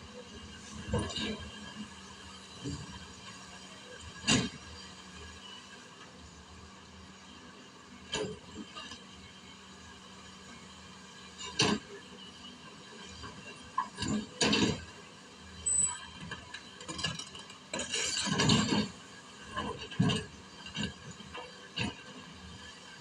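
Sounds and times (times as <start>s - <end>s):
excavator engine hum: 0.0s - 23.0s.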